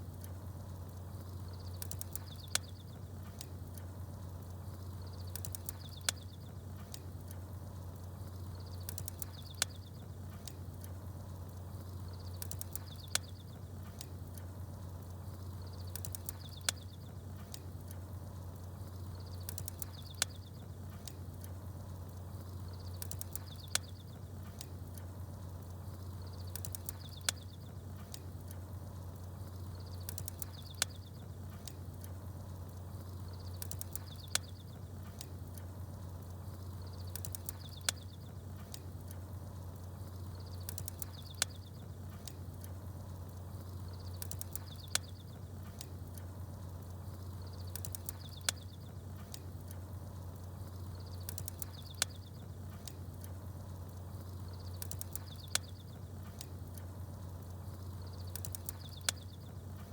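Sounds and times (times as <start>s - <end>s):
campfire crackling and popping: 0.0s - 59.9s
small birds chirping: 0.0s - 59.9s
steady low hum: 0.0s - 59.9s.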